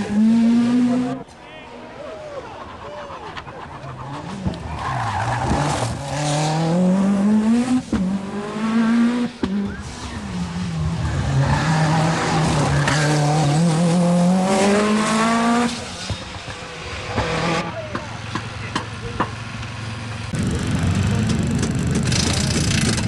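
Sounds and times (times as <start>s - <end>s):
rally car engine accelerating hard: 0.0s - 1.3s, 3.4s - 23.0s.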